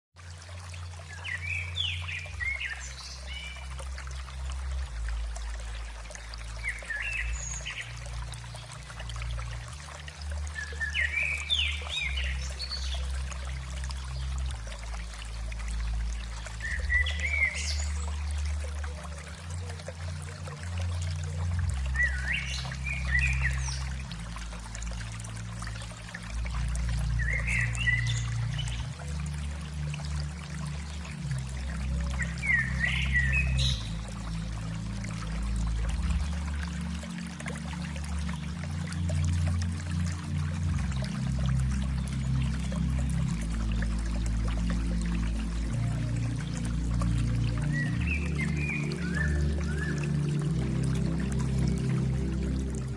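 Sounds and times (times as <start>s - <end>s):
running water: 0.2s - 52.9s.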